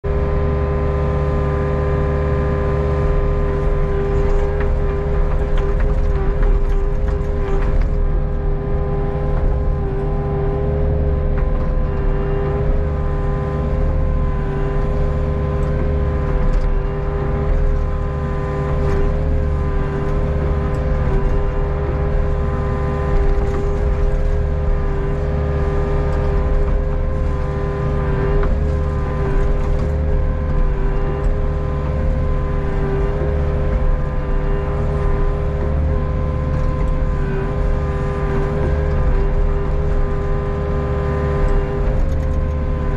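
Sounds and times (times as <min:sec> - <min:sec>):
excavator diesel engine: 0:00.0 - 0:42.9
hydraulic whine: 0:00.0 - 0:42.9.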